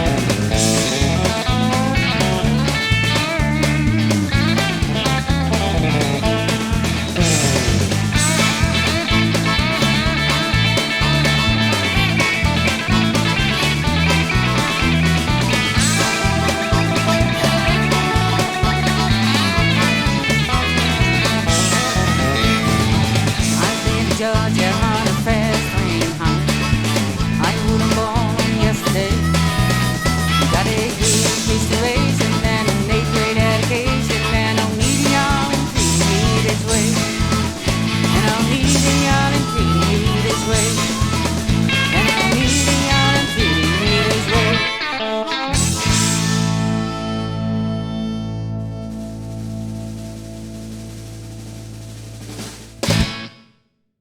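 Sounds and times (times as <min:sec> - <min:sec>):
pulsing bass line: 0:00.0 - 0:44.7, 0:45.6 - 0:53.2
drums steady beat: 0:00.0 - 0:44.8, 0:45.6 - 0:47.4, 0:48.8 - 0:53.3
country rock band playing: 0:00.0 - 0:53.5
lead guitar: 0:00.0 - 0:53.5.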